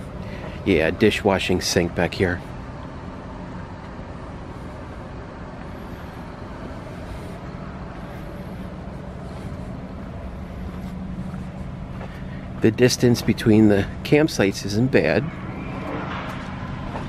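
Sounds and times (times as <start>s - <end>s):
car engine hum: 0.0s - 17.0s
road noise: 0.0s - 17.0s.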